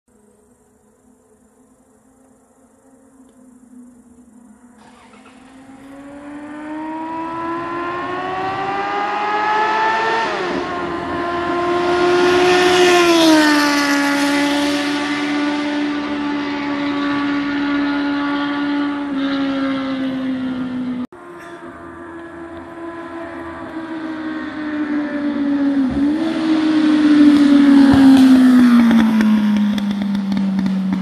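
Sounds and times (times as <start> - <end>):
motorcycle accelerating and passing: 1.4 - 31.0.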